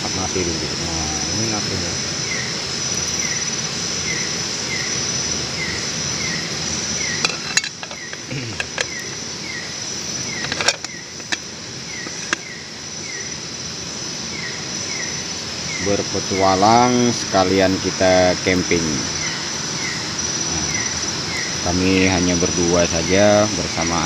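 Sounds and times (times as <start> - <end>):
insect chirps: 0.0 - 24.0
insects trilling: 0.0 - 24.0.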